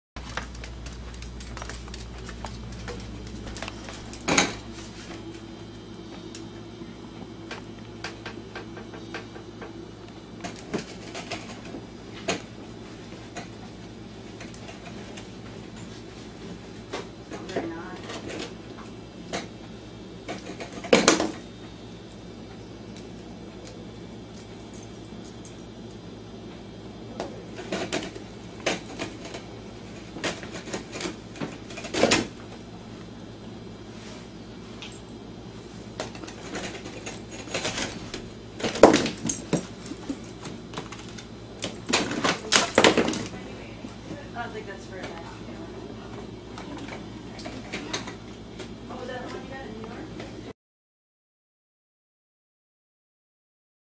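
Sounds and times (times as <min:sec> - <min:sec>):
steady low hum: 0:00.2 - 0:50.5.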